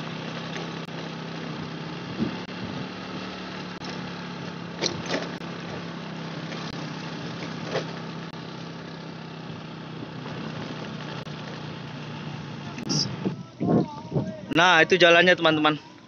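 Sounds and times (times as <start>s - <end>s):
small engine running: 0.0s - 13.4s.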